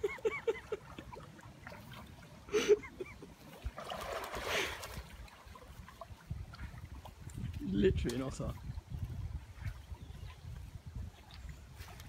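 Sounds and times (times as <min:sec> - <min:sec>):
river water splashing: 0:00.0 - 0:12.0.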